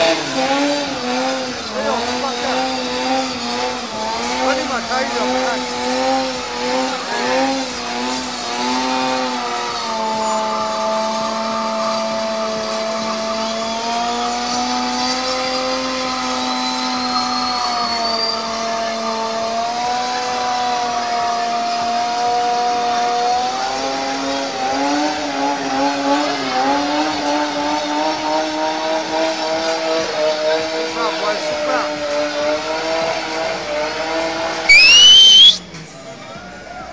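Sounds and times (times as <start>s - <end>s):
engine at high revs: 0.0s - 34.7s.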